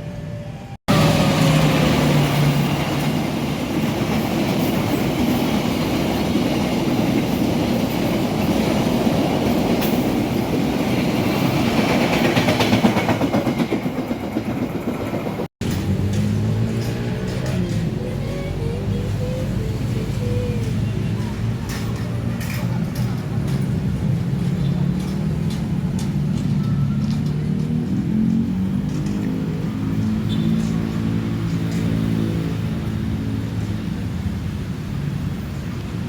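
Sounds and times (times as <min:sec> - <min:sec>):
train wheels rumbling on rails: 0:00.2 - 0:36.0.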